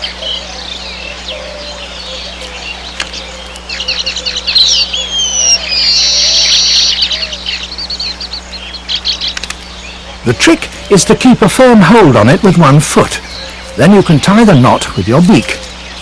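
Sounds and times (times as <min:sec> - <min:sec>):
bird buzzy trill: 0:00.0 - 0:16.0
birds chattering: 0:00.0 - 0:16.0.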